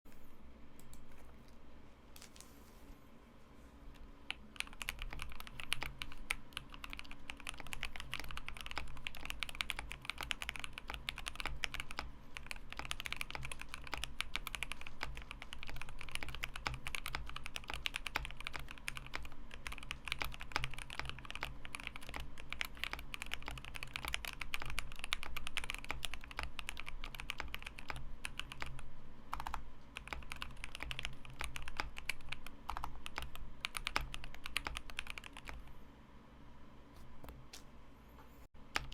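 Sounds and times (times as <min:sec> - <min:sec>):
fast typing on mechanical keyboard: 0:04.3 - 0:35.6.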